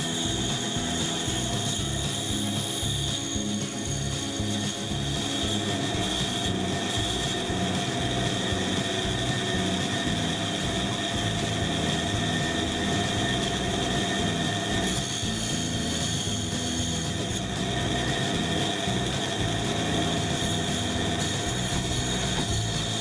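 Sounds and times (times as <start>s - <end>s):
band saw whining: 0.0s - 23.0s.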